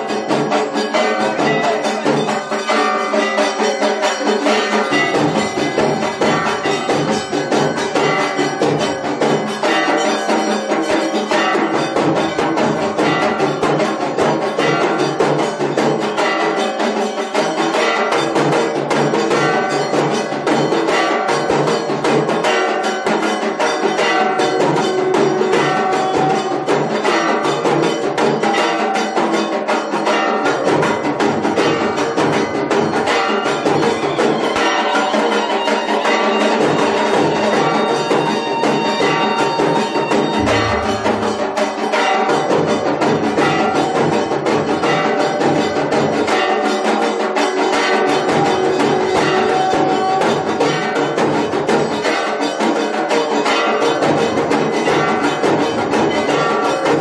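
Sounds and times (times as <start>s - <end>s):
bells ringing: 0.0s - 57.0s
drums in fast rhythm: 0.0s - 57.0s.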